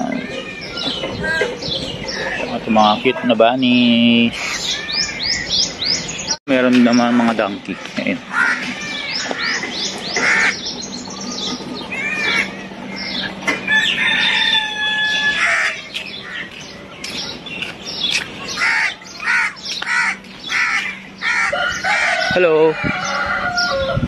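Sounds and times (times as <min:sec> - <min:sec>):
chickens and birds calling: 0:00.0 - 0:24.0.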